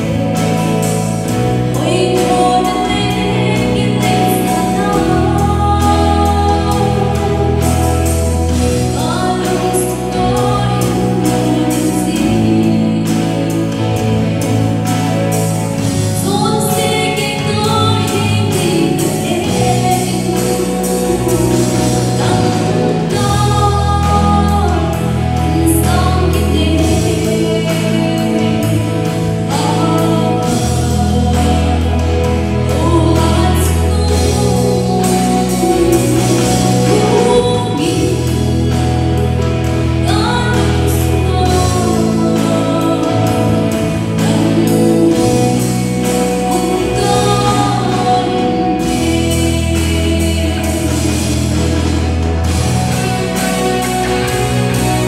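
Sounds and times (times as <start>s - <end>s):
live band playing worship music: 0.0s - 55.0s
woman singing lead: 0.0s - 55.0s.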